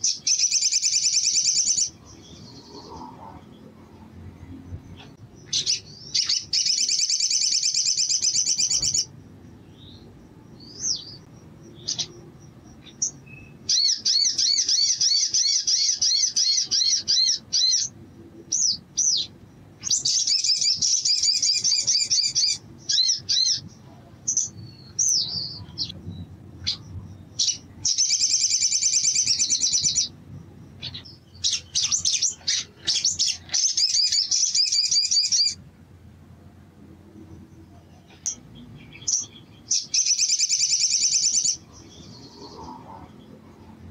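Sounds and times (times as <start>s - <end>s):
bird trilling: 0.0s - 3.2s, 5.0s - 9.1s, 9.8s - 25.9s, 26.6s - 30.2s, 30.8s - 35.6s, 38.2s - 42.9s
bird chirps: 0.0s - 35.6s, 37.4s - 43.9s.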